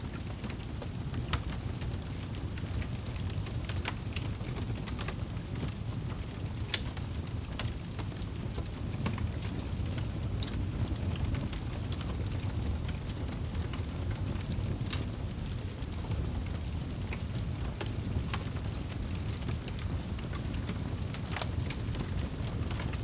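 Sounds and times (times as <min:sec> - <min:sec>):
firewood crackling and popping: 0:00.0 - 0:23.0
low rumble of flames: 0:00.0 - 0:23.0.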